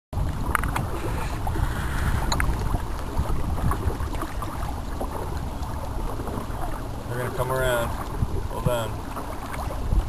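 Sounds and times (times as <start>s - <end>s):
water rushing along hull: 0.2s - 10.0s
wind buffeting microphone: 0.2s - 10.0s.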